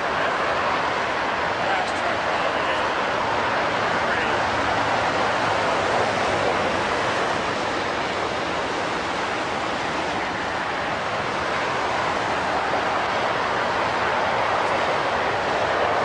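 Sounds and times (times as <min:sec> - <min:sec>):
freeway traffic roar: 0:00.0 - 0:16.0.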